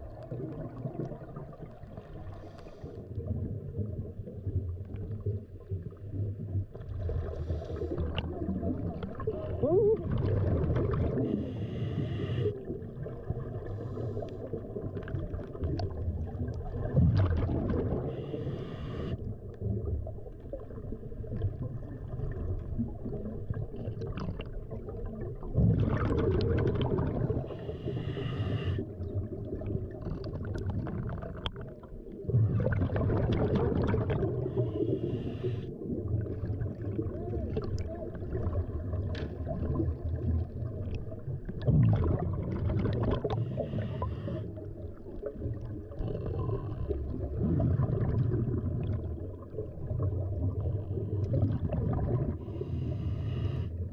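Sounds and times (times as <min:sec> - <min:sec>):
underwater water rumble: 0:00.0 - 0:53.9.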